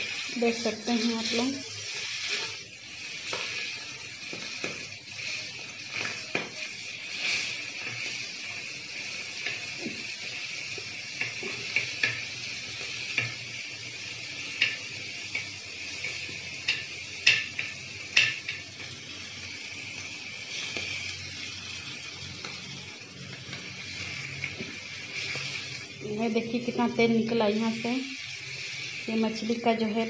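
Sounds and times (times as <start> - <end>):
fish frying in hot oil: 0.0 - 30.0.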